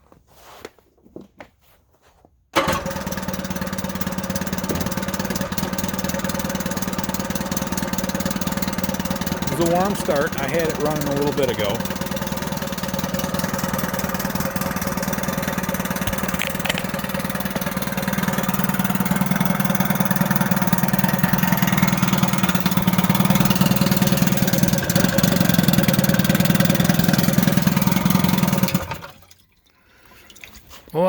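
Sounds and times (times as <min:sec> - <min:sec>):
outboard motor running: 0:02.6 - 0:30.6.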